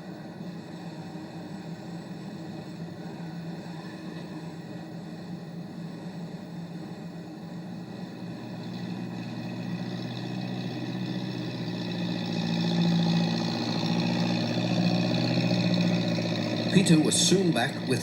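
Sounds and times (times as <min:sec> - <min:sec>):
machine engine running: 0:00.0 - 0:18.0.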